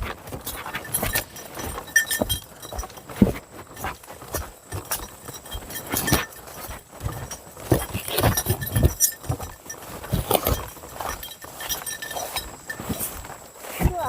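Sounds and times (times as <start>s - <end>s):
footsteps on rough path: 0.0s - 14.0s.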